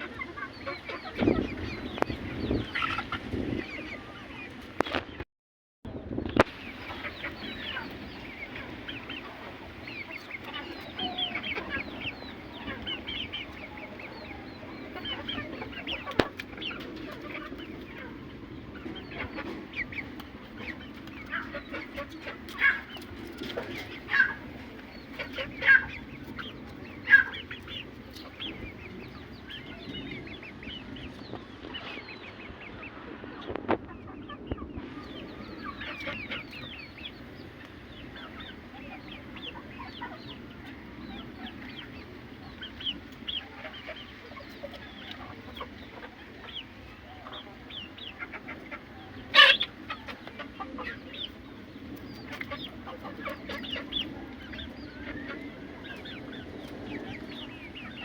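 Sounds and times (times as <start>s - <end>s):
chickens clucking: 0.0s - 5.2s, 6.1s - 58.0s.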